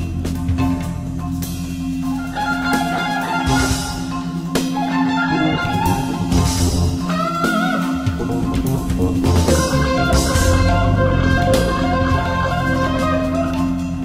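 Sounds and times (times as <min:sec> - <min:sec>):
jazz fusion ensemble playing: 0:00.0 - 0:14.0.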